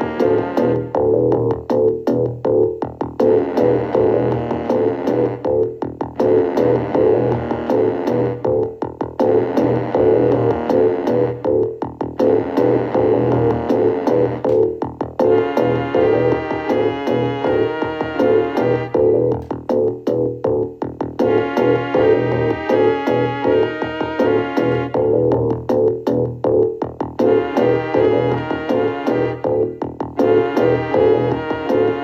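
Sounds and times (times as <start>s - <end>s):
stuttering synthesizer music: 0.0s - 32.0s.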